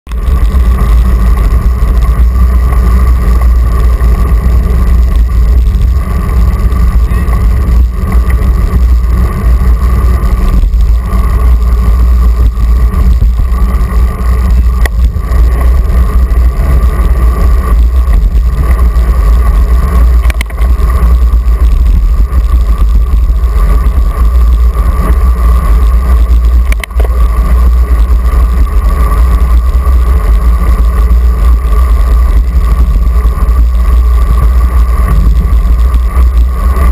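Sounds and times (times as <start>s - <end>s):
steady whine: 0.0s - 36.9s
wind rumble on microphone: 0.0s - 36.9s
tyres on asphalt: 0.1s - 36.9s.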